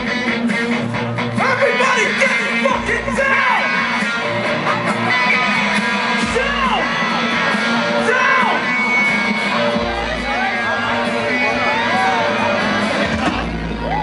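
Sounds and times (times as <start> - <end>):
electric guitar: 0.0 - 14.0
live electronic rock music: 0.0 - 14.0.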